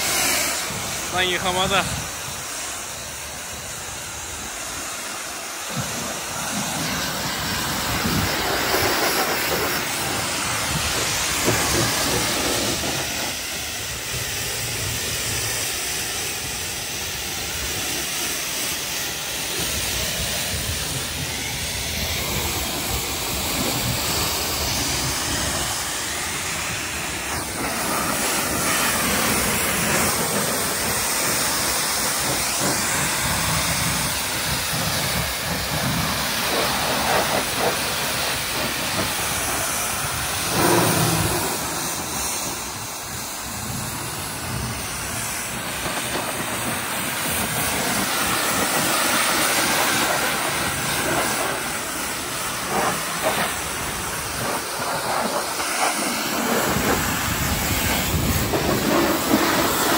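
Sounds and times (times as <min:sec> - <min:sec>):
pressure washer jet spraying: 0:00.0 - 0:59.9.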